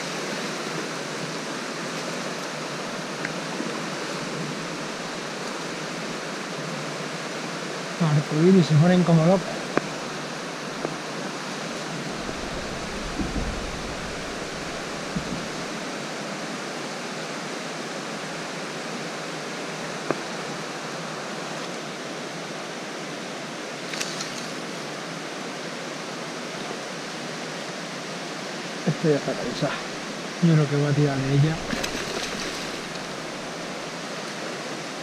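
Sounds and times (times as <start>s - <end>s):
flowing river water: 0.0s - 35.0s.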